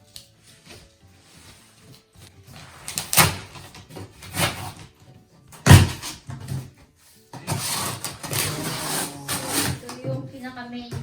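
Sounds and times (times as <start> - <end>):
packaging rustling and scraping: 0.0 - 10.4.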